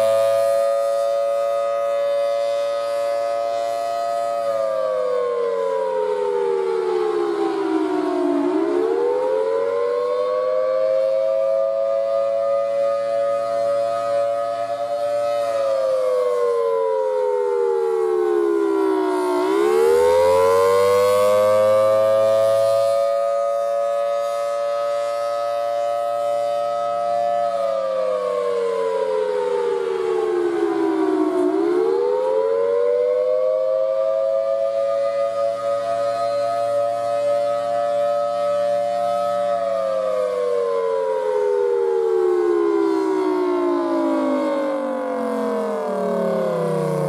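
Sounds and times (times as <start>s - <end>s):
rotating mechanical siren wailing: 0.0s - 47.0s.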